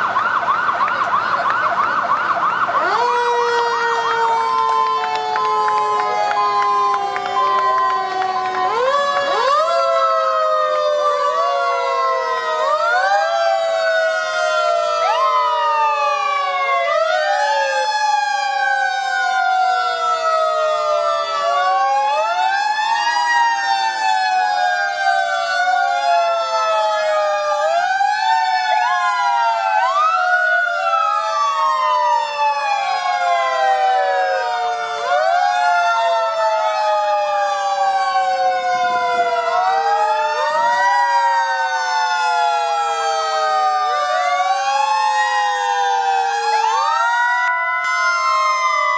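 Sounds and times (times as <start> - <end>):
fire engine sirens wailing: 0.0 - 48.9.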